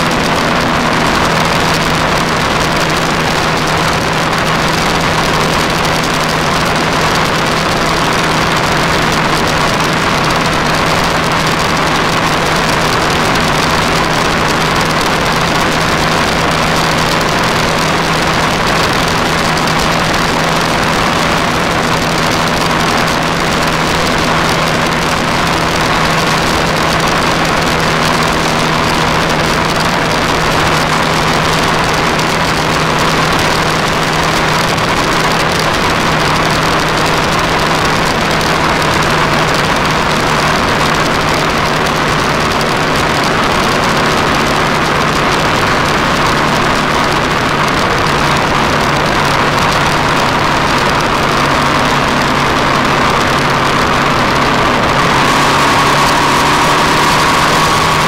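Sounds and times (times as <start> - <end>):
motorcycle engine drone: 0.0 - 58.0
wind and road noise: 0.0 - 58.0.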